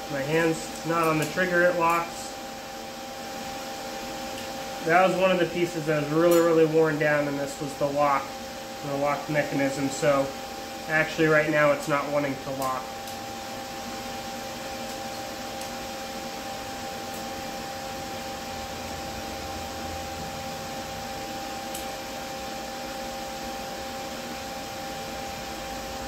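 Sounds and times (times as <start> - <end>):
fan whirring hiss: 0.0 - 26.0.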